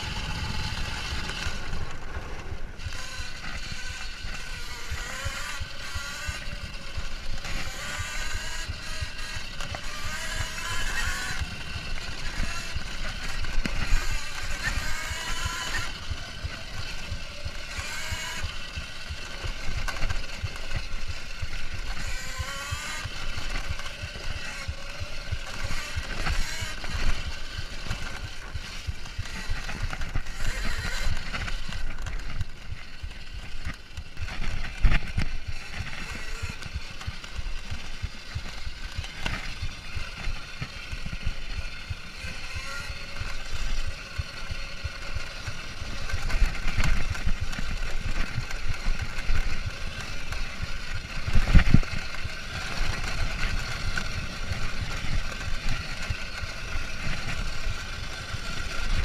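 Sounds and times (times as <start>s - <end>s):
bike bouncing on dirt trail: 0.0s - 59.0s
electric motorbike motor whining: 0.0s - 59.0s.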